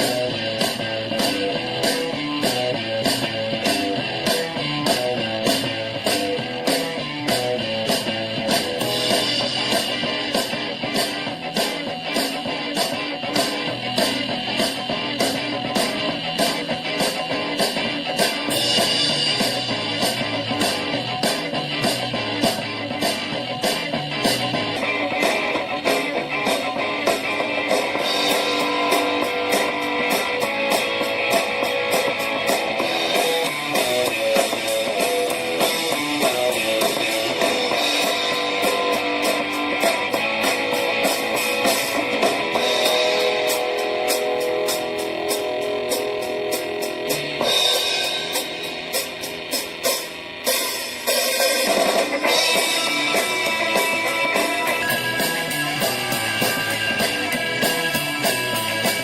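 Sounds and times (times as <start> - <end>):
guitar music from small speaker: 0.0 - 59.0.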